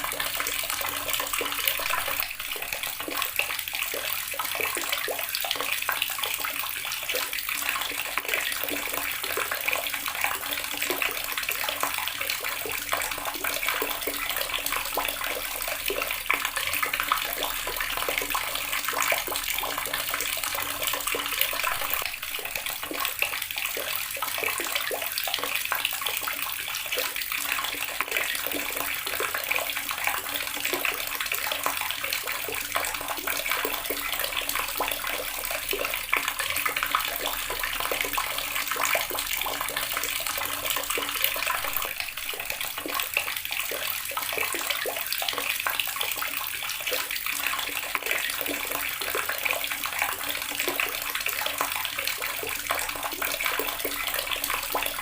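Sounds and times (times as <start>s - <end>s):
tap water splashing into basin: 0.0s - 55.0s.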